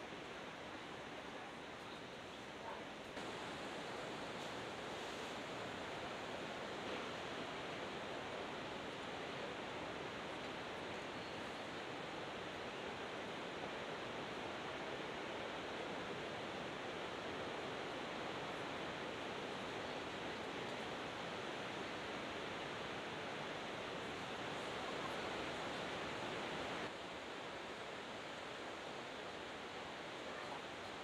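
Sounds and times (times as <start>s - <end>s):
distant ocean surf: 0.0s - 31.0s.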